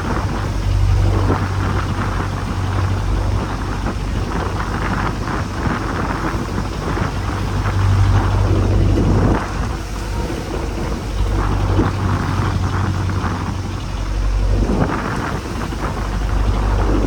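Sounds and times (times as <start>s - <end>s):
boat engine humming: 0.0s - 17.0s
rough sea rushing: 0.0s - 17.0s
wind noise on microphone: 0.0s - 17.0s.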